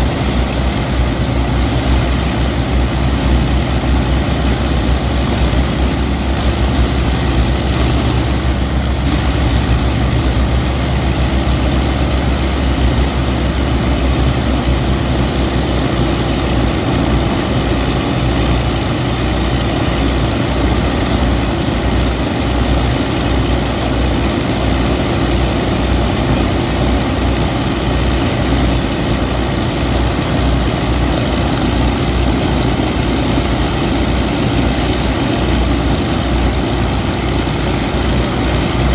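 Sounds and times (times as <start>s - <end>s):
piston aircraft engines idling: 0.0s - 38.9s.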